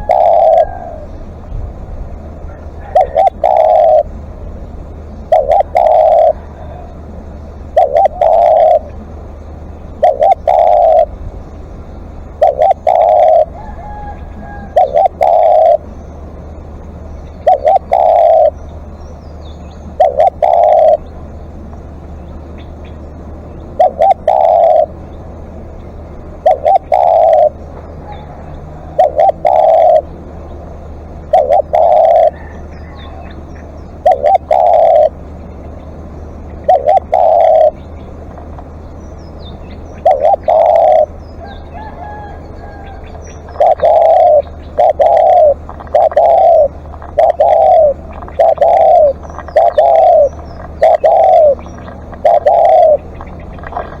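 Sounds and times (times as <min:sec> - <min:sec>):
dove cooing: 0:00.0 - 0:54.0
low hum: 0:00.0 - 0:54.0.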